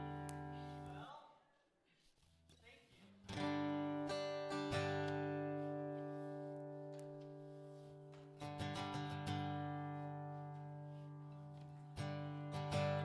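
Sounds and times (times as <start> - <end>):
acoustic guitar strummed: 0.0 - 1.0, 3.2 - 13.0.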